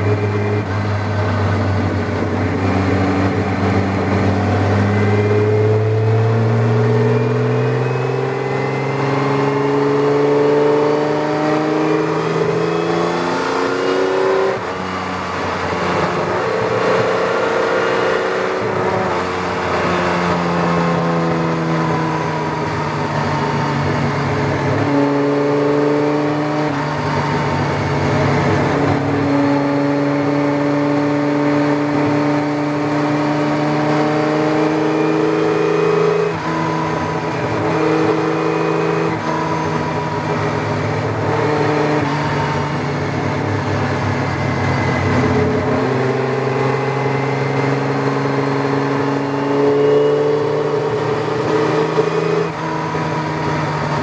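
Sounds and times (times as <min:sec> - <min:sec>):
racing car engine shifting gears: 0:00.0 - 0:54.0.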